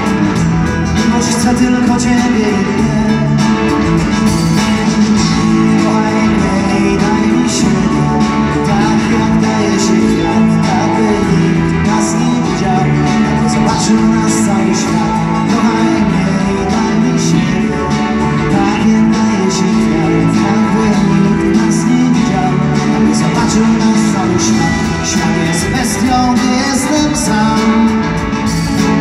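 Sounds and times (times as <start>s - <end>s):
drums with cymbal hits: 0.0s - 29.0s
electric guitars: 0.0s - 29.0s.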